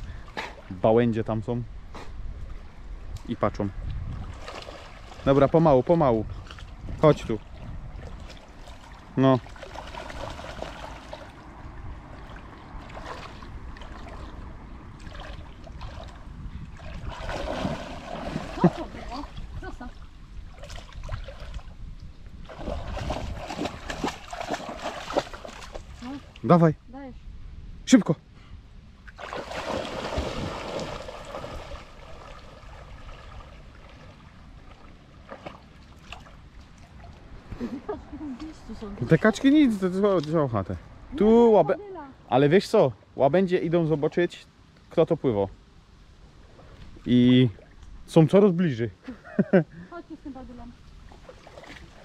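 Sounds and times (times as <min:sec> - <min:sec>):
water lapping and splashing: 0:00.0 - 0:01.0, 0:03.9 - 0:26.6, 0:29.0 - 0:44.3, 0:46.2 - 0:48.5, 0:49.9 - 0:52.0.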